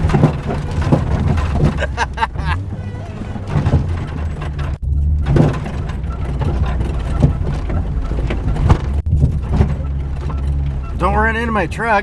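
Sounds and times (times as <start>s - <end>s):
knocks and rattles from bumps: 0.0s - 11.6s
vehicle engine running: 0.0s - 12.0s.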